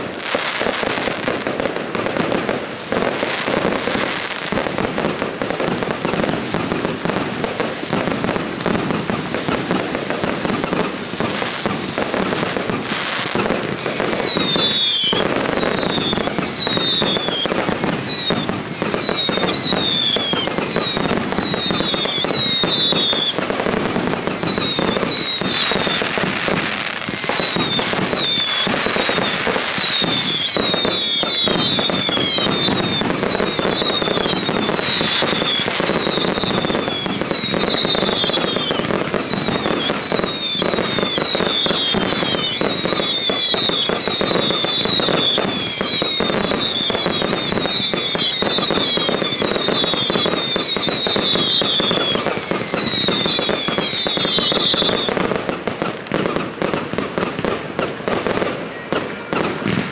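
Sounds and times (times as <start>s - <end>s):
falling firework whistles: 0.0s - 59.9s
fireworks bangs and crackling: 0.0s - 59.9s.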